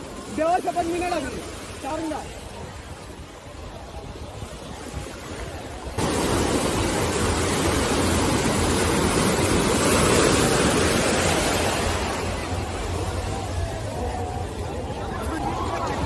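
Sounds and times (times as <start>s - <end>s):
sea surf breaking in shallows: 0.0s - 16.0s.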